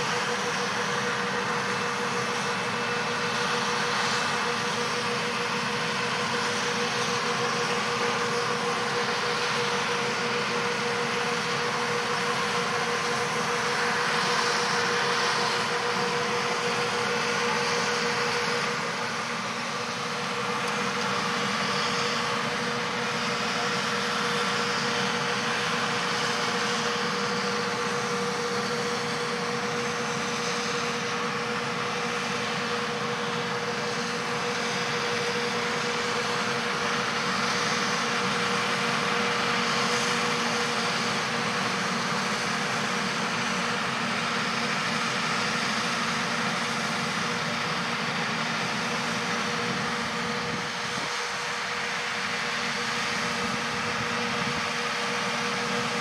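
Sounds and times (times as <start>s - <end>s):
tractor engines and harvesting machinery: 0.0s - 56.0s.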